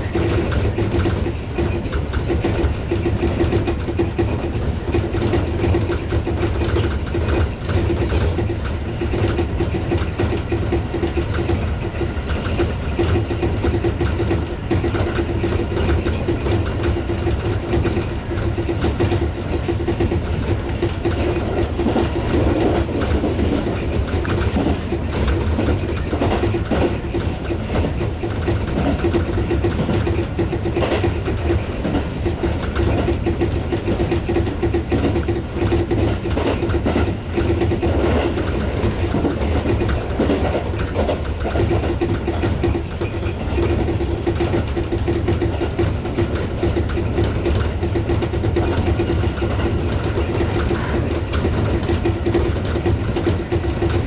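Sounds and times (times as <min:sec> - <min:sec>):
rail rumble: 0:00.0 - 0:54.0
wheels clicking over rail joints: 0:00.0 - 0:54.0.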